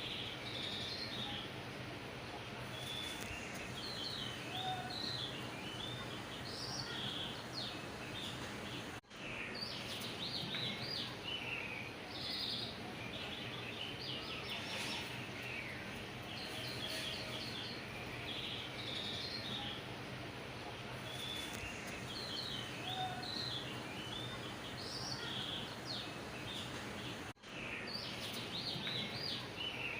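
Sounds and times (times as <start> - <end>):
small birds chirping: 0.0 - 1.6, 2.4 - 29.9
background hiss: 0.0 - 29.9.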